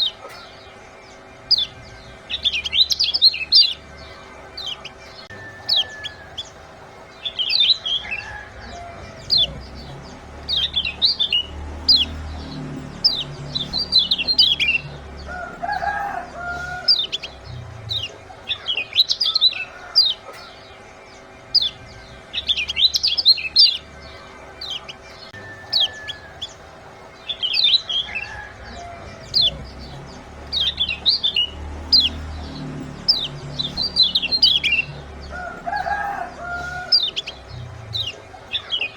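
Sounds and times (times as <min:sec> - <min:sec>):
bird chirping sharply: 0:00.0 - 0:38.9.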